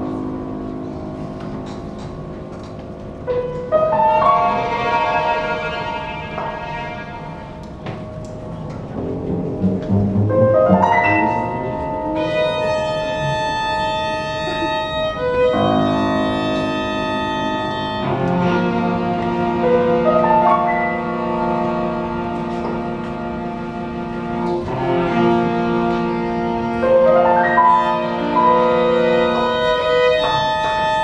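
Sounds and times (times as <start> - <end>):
chamber quartet playing: 0.0 - 31.0.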